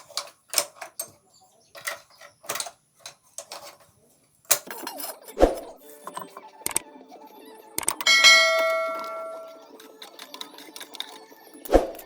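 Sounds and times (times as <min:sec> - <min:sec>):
hand tools clicking and scraping: 0:00.0 - 0:06.8, 0:07.8 - 0:12.0.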